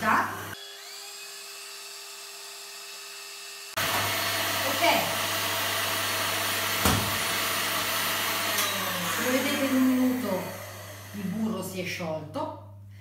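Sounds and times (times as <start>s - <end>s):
stand mixer running at high speed: 0.0s - 11.4s.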